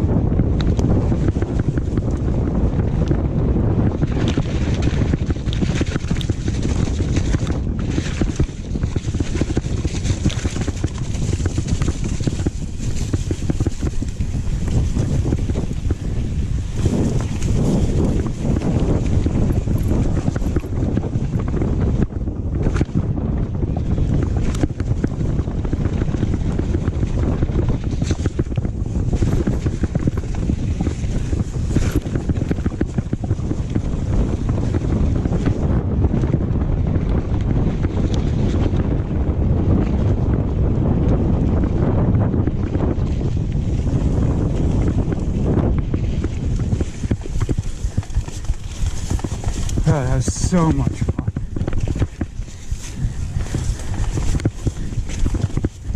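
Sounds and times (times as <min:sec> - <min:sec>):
mountain bike rattling: 0:00.0 - 0:55.9
wind buffeting microphone: 0:00.0 - 0:55.9.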